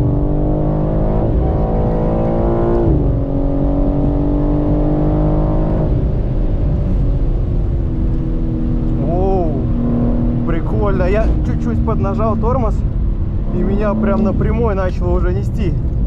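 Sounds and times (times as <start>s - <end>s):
car engine at speed from inside: 0.0s - 16.0s.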